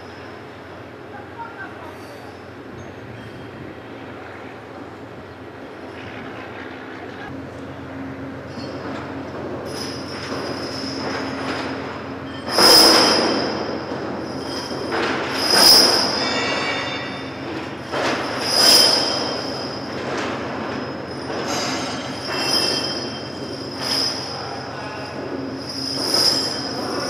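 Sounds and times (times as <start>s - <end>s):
metallic machinery squealing: 0.0s - 4.8s, 8.3s - 27.0s.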